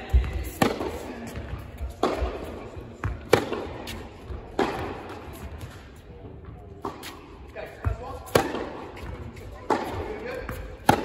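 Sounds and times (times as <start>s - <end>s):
rackets hitting tennis ball: 0.0s - 11.0s
tennis ball bouncing: 0.0s - 11.0s.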